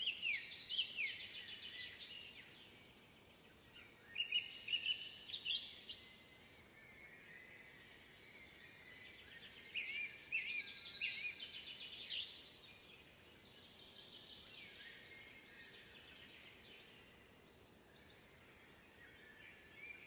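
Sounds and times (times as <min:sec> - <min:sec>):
bird singing chirps and trills: 0:00.0 - 0:20.0
faint chorus of birds: 0:00.0 - 0:20.0.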